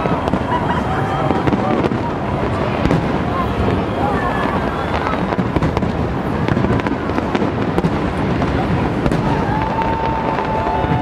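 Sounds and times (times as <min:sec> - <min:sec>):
fireworks booming and crackling: 0:00.0 - 0:11.0.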